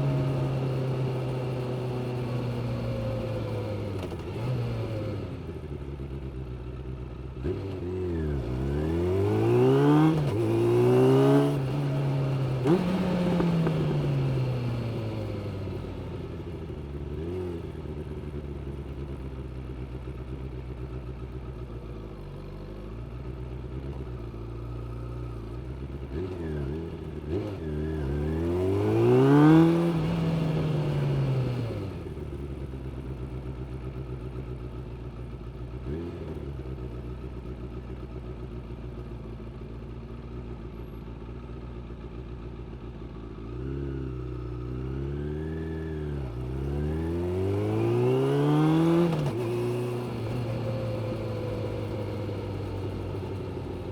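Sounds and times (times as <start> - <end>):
motorcycle engine revving: 0.0 - 21.6, 23.1 - 53.9.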